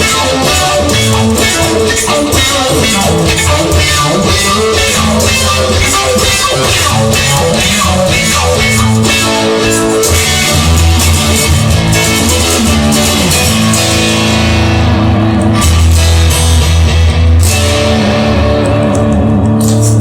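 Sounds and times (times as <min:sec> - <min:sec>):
bass line: 0:00.0 - 0:20.0
instrumental rock guitars: 0:00.0 - 0:20.0.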